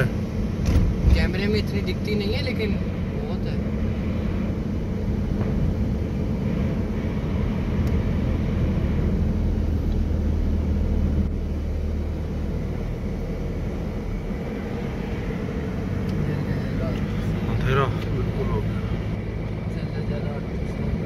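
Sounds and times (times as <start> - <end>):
wind gusts buffeting: 0.0 - 19.8
truck engine low hum: 0.0 - 21.0.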